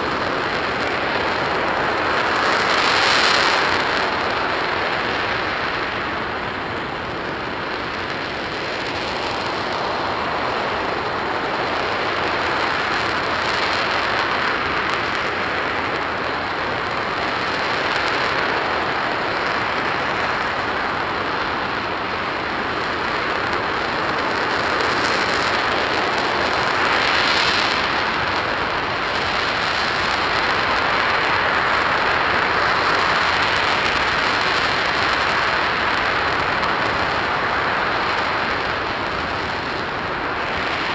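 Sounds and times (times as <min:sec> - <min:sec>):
rocket engine roar: 0:00.0 - 0:40.9.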